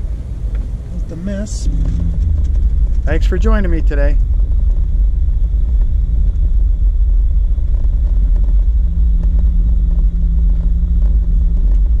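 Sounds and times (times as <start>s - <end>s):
engine drone: 0.0s - 12.0s
loud low rumble: 0.0s - 12.0s.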